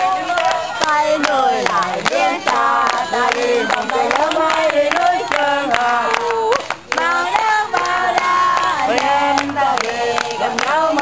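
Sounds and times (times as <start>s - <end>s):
group singing: 0.0s - 11.0s
hands clapping in rhythm: 0.0s - 11.0s.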